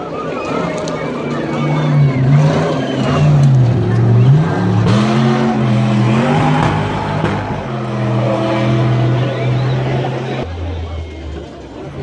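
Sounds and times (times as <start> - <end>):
race truck engine revving: 0.2 - 12.0.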